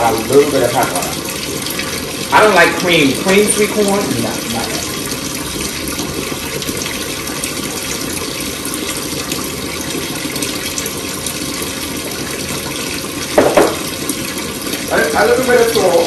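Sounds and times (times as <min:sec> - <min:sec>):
running tap water: 0:00.0 - 0:16.0.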